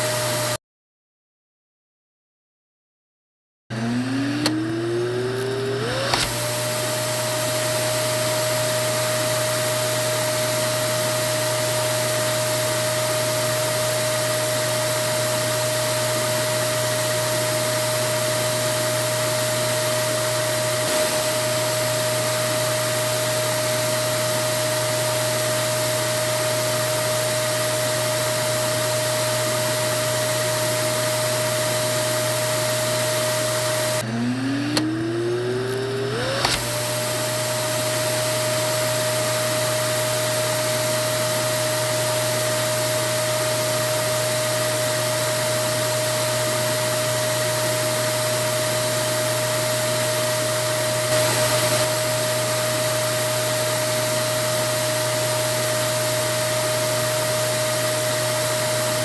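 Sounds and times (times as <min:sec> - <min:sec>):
vacuum cleaner motor whining: 0:00.0 - 0:00.6, 0:03.7 - 0:59.0.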